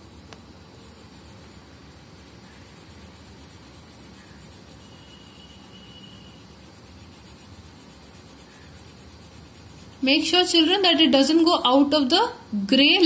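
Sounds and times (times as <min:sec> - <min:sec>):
background hiss: 0:00.0 - 0:13.0
crayon rubbing on paper: 0:00.0 - 0:13.0.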